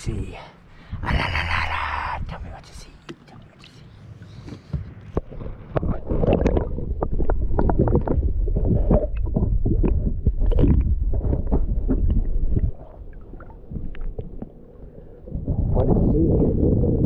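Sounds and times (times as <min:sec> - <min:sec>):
watercraft engine rumble: 0:00.0 - 0:17.0.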